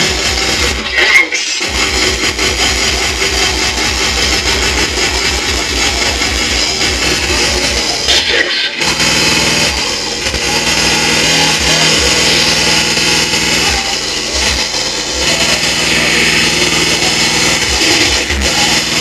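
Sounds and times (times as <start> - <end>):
fast distorted kick drum: 0.0 - 1.0, 1.6 - 19.0
harsh buzzing synth tones: 1.6 - 19.0.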